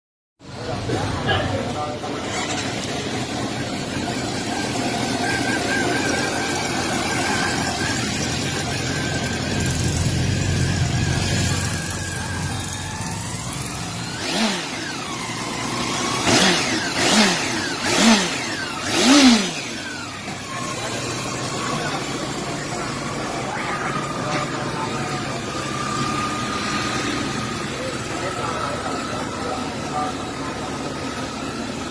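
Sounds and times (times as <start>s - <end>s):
motorcycle engine idling: 0.4s - 31.9s.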